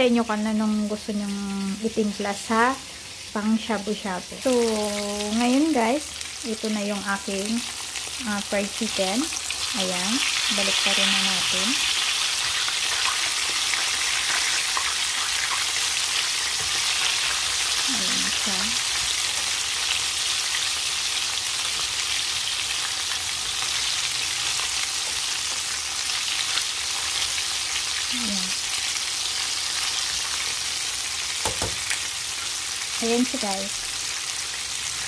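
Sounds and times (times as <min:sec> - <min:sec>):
chicken deep-frying in oil: 0:00.0 - 0:35.0.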